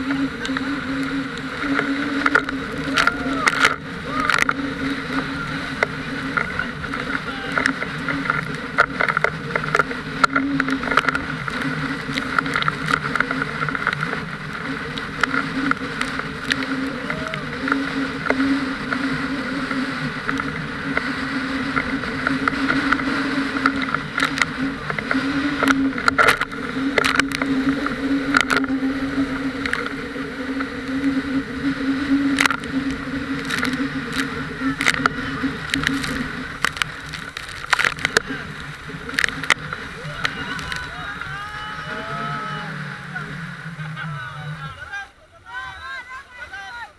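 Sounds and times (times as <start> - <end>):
rushing water and spray: 0.0 - 45.2
motorboat engine droning: 0.0 - 46.9
water slapping the boat: 0.0 - 46.9.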